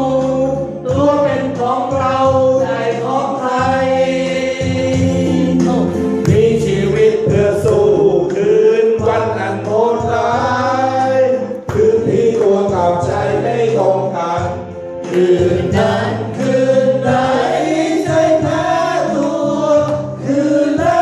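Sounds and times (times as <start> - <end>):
bass and backing accompaniment: 0.0 - 21.0.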